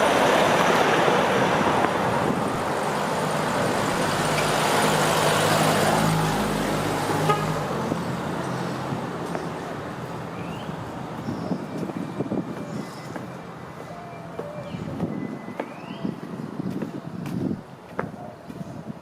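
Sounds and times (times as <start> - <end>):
vehicle engine hum passing: 0.0 - 15.8.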